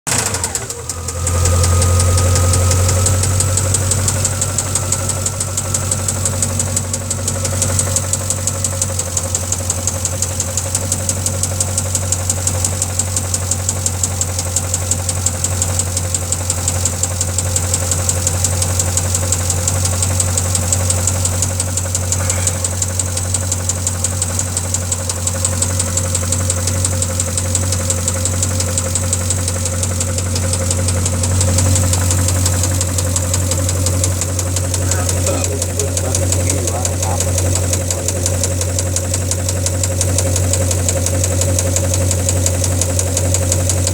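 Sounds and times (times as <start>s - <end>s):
engine running: 0.1s - 43.9s
rapid engine knocking: 0.1s - 43.9s.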